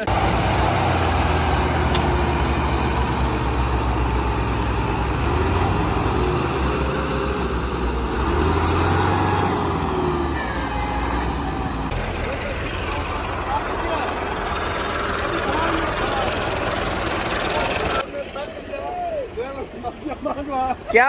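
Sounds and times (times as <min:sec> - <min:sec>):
diesel tractor engines under load: 0:00.0 - 0:21.0.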